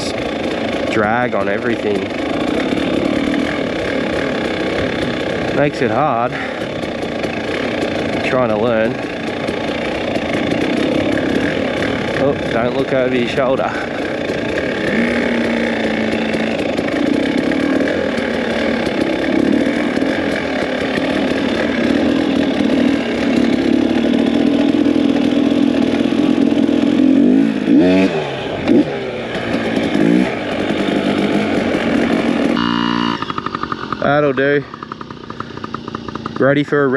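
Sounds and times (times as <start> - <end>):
two-stroke dirt bike engines: 0.0 - 36.9.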